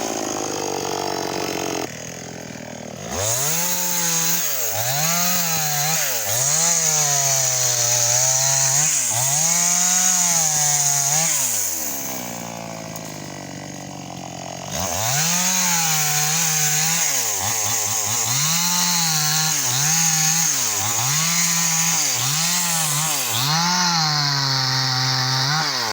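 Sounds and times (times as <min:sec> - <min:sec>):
chainsaw cutting wood: 0:00.0 - 0:25.9.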